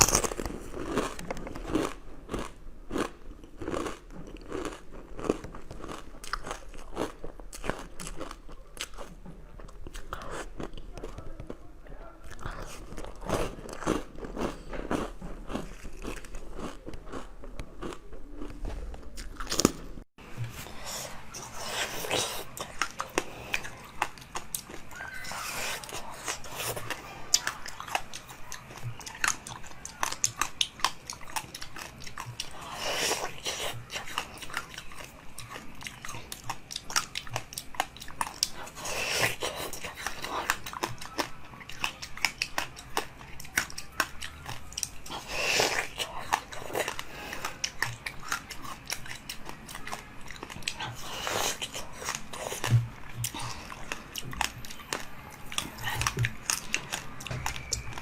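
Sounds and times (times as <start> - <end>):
crunchy chewing: 0.0 - 19.9, 20.5 - 58.0.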